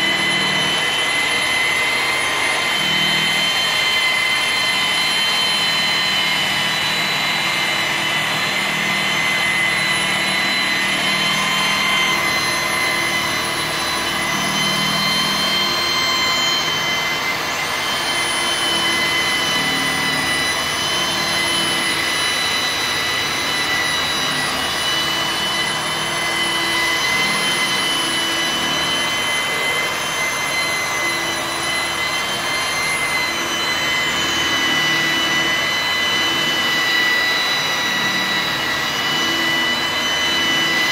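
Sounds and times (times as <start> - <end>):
angle grinder whining: 0.0 - 40.9.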